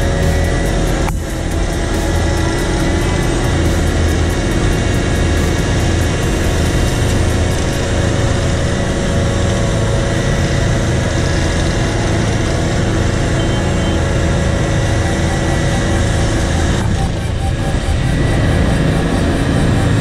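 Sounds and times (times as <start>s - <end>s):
paver diesel engine running: 0.0s - 20.0s.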